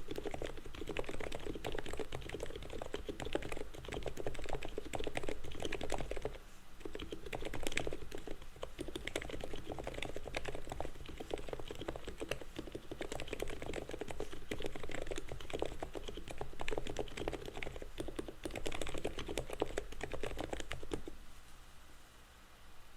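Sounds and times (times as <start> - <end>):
fast typing on mechanical keyboard: 0.0 - 21.2.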